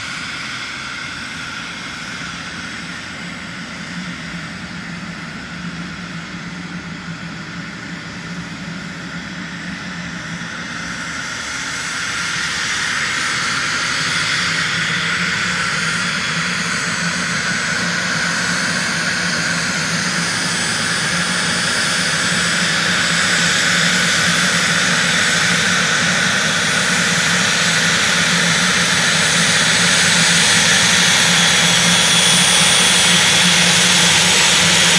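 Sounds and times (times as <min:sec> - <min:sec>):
jet engine whine: 0:00.0 - 0:34.9.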